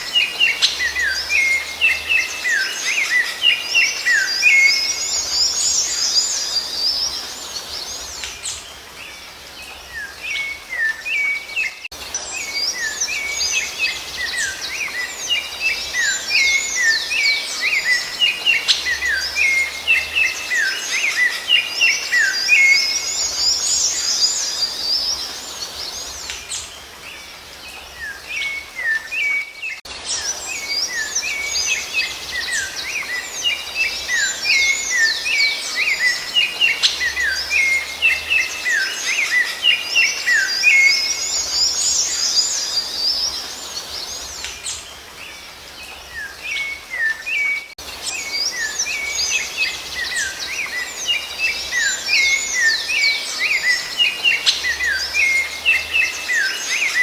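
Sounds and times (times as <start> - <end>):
songbirds chirping and whistling: 0.0 - 57.0.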